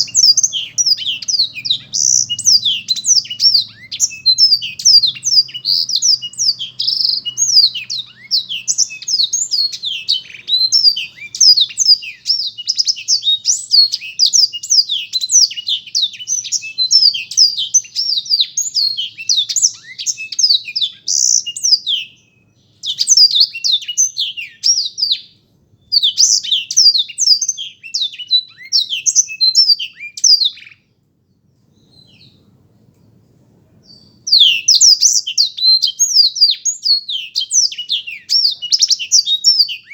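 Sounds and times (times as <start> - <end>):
canary singing twittering song: 0.0 - 32.6, 33.8 - 39.9.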